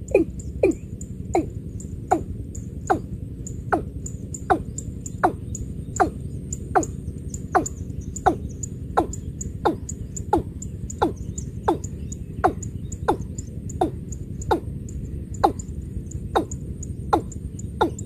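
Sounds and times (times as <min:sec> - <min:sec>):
bird calling low sliding notes: 0:00.0 - 0:18.0.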